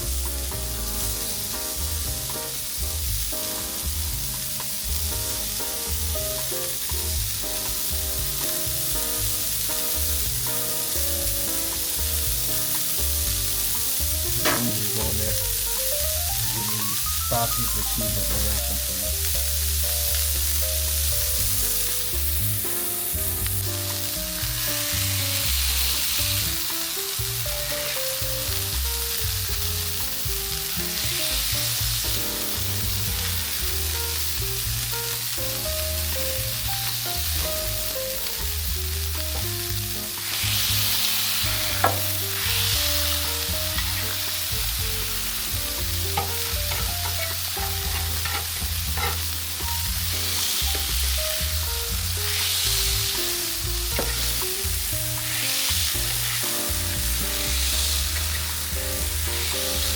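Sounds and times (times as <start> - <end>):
background music with bass: 0.0 - 59.9
food sizzling: 0.0 - 59.9.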